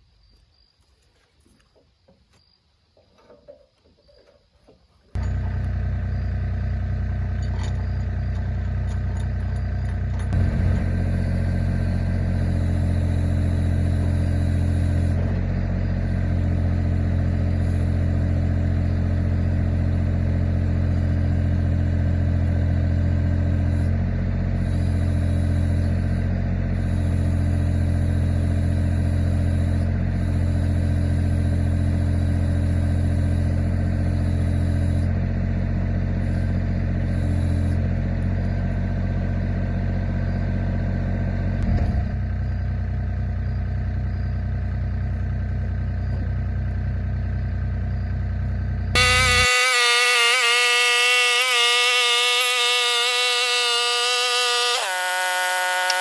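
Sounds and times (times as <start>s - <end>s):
engine running with low hum: 3.0s - 56.0s.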